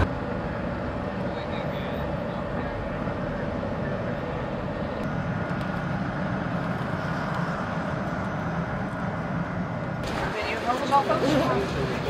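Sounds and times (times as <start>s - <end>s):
faint steady whine: 0.0s - 12.0s
vehicle running hum: 0.0s - 12.0s.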